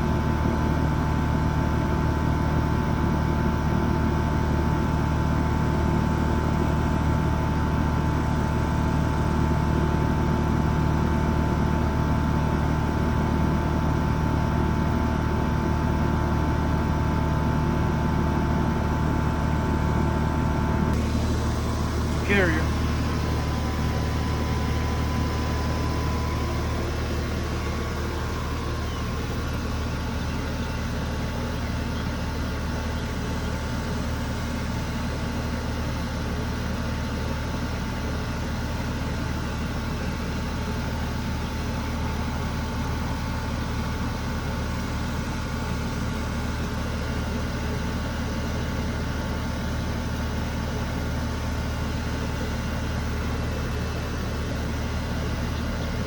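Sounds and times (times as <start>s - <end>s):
air conditioning unit humming: 0.0s - 56.0s.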